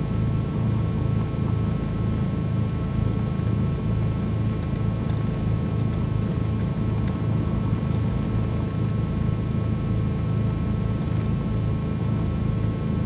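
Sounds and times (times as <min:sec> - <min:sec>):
piston aircraft engines droning: 0:00.0 - 0:13.0.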